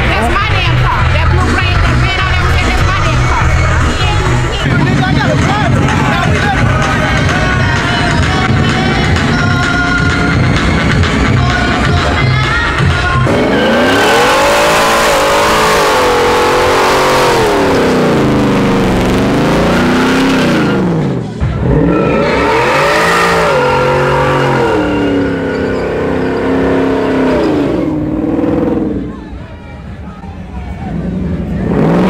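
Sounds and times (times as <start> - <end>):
pickup engine revving: 0.0 - 29.2, 30.8 - 32.0.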